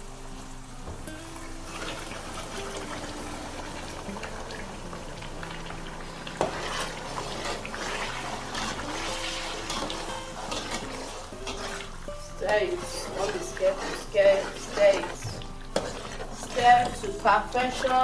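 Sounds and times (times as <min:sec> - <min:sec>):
liquid pouring and splashing: 0:01.4 - 0:18.0
pot bubbling and spluttering: 0:01.4 - 0:18.0.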